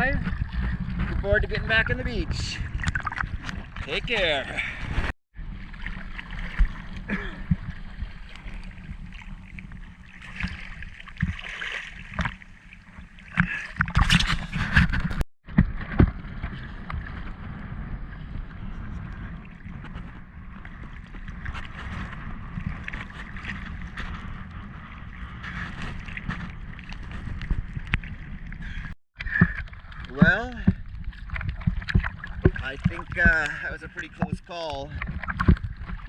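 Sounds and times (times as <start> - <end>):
sea water sloshing and splashing: 0.0 - 36.0
wind on microphone: 0.0 - 36.0.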